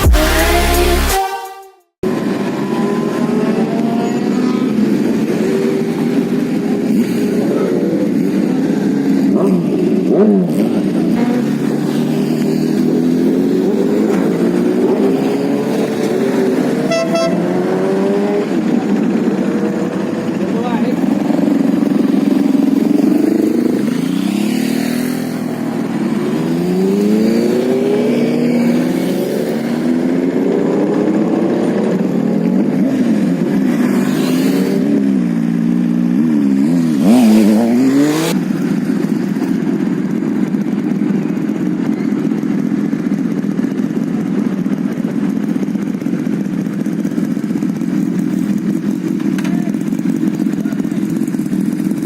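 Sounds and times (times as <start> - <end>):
motorcycle engines accelerating: 2.0 - 52.0.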